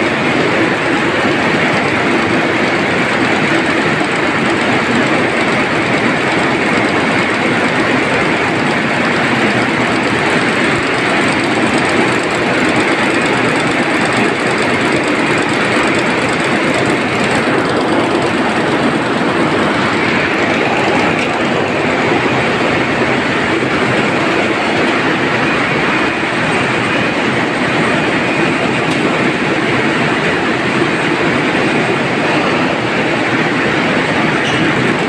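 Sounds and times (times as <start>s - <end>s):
weaving looms clattering: 0.0s - 35.0s.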